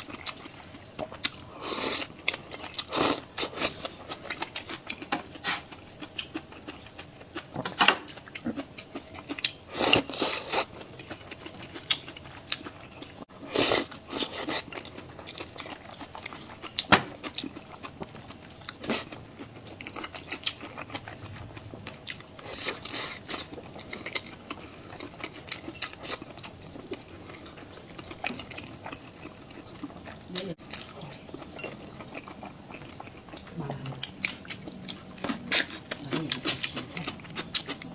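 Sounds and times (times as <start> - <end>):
person chewing and crunching food: 0.0 - 37.9.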